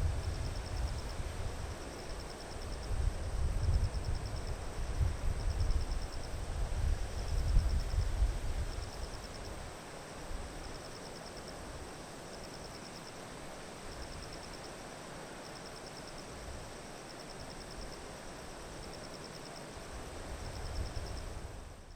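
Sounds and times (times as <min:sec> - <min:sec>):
river hiss: 0:00.0 - 0:21.9.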